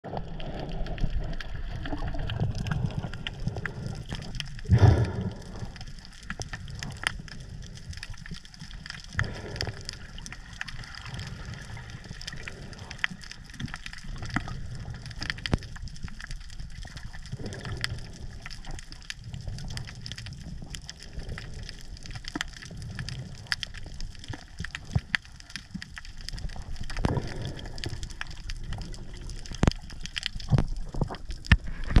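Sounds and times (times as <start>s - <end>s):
muffled underwater rumble: 0.0s - 32.0s
sharp underwater clicks: 1.3s - 32.0s.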